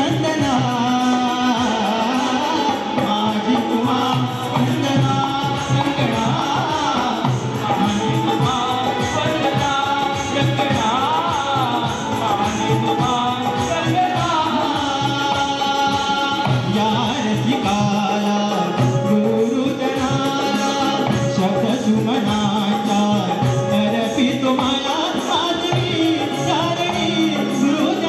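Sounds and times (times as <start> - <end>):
hand drum rhythm: 0.0 - 28.0
person singing: 0.0 - 28.0.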